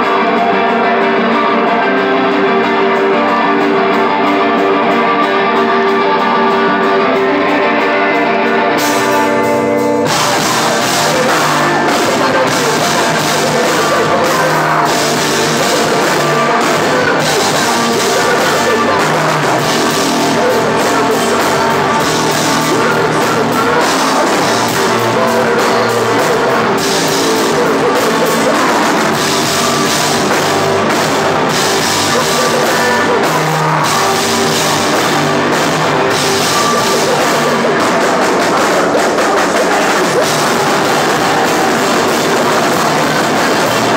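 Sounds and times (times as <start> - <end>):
live rock band playing: 0.0 - 43.9
ringing electric guitar notes: 0.0 - 43.9.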